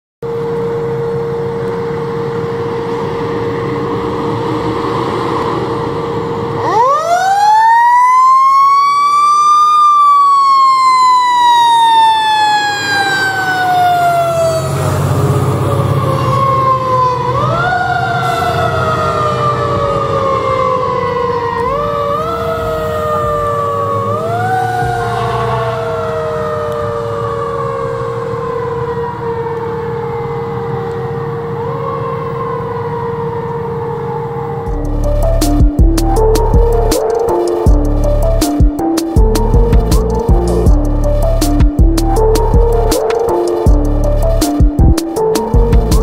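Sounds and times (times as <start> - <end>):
diesel engine rumbling: 0.2 - 7.2, 10.8 - 46.0.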